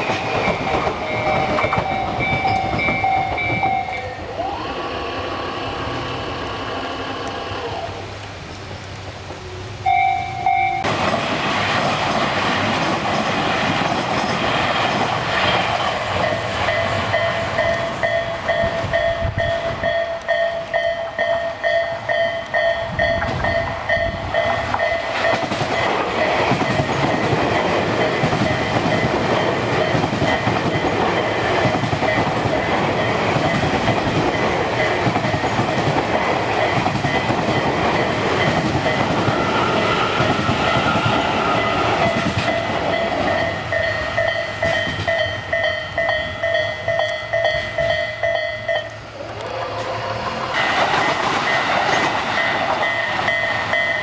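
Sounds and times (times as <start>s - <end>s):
train wheels clattering over rails: 0.0s - 4.7s, 10.8s - 54.0s
crossing warning bell ringing: 0.0s - 5.4s, 9.8s - 11.1s, 14.6s - 54.0s.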